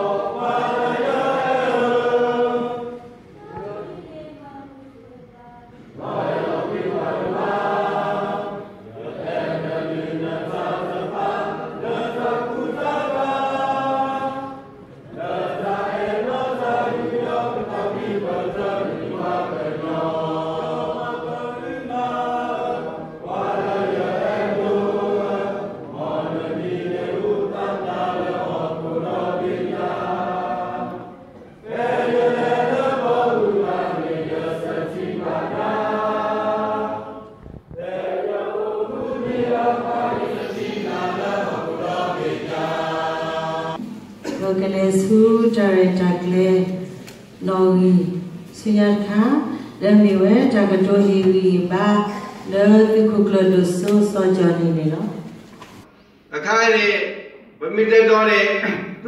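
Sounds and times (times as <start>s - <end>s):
group singing unaccompanied: 0.0s - 4.3s, 5.7s - 55.9s.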